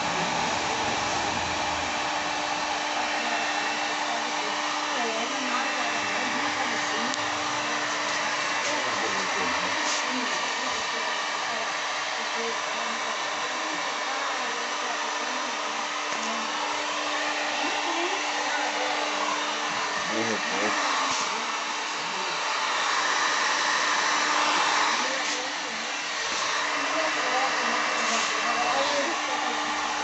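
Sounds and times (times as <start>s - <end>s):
heat gun blowing air: 0.0s - 30.0s.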